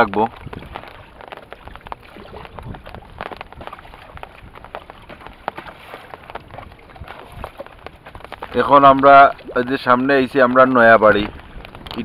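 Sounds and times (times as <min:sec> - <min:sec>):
water slapping against boat: 0:00.0 - 0:12.0
wind on microphone: 0:00.0 - 0:12.0.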